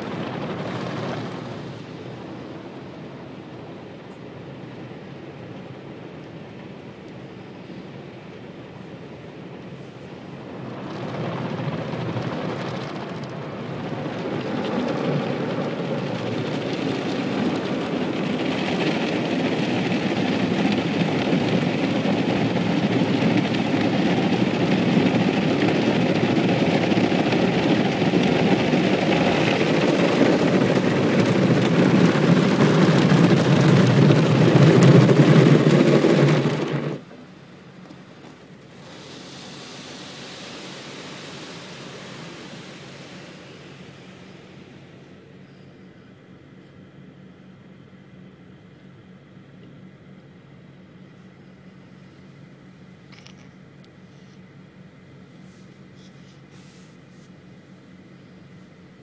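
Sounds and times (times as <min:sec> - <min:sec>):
car wash spraying and scrubbing: 0:00.0 - 0:06.8, 0:07.7 - 0:45.4, 0:55.2 - 0:58.9.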